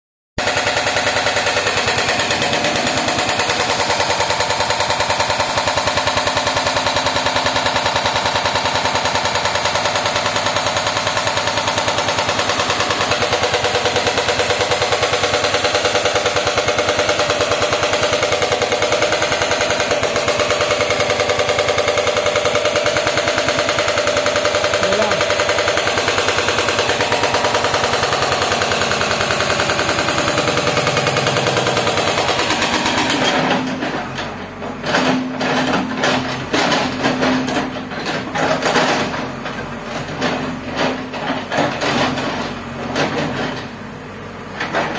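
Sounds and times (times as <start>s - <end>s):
hydraulic breaker hammering rock: 0.4s - 43.8s, 44.4s - 44.9s.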